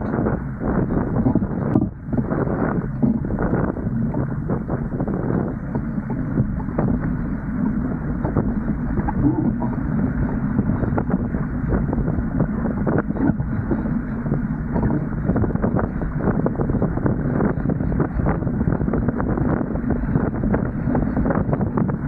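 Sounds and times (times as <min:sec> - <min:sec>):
water rushing along hulls: 0:00.0 - 0:22.0
wind buffeting microphone: 0:00.0 - 0:22.0.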